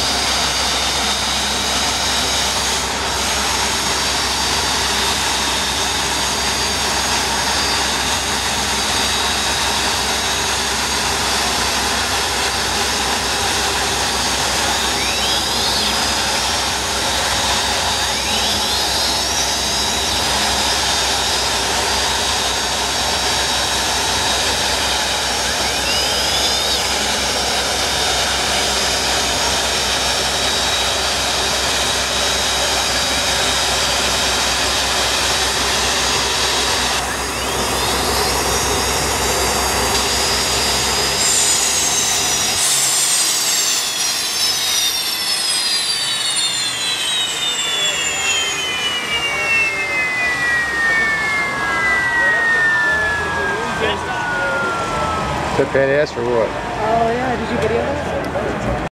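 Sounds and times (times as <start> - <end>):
boat turbine engines whining: 0.0 - 58.9
brief rising whines: 0.0 - 58.9.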